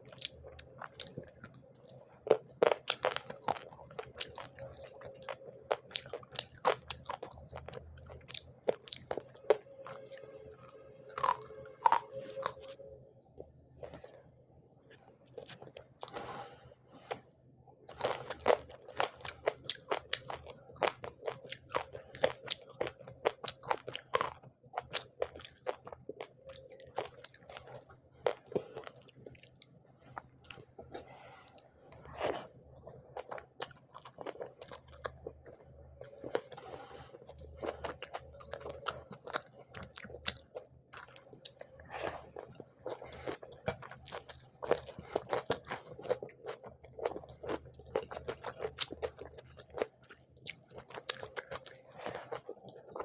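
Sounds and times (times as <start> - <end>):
chewing with crisp crunches: 0.0 - 13.0, 13.8 - 16.3, 17.0 - 53.0.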